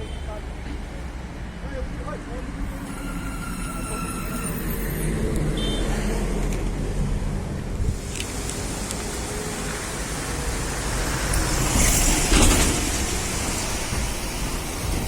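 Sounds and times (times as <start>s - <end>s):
road noise rushing hiss: 0.0s - 15.0s.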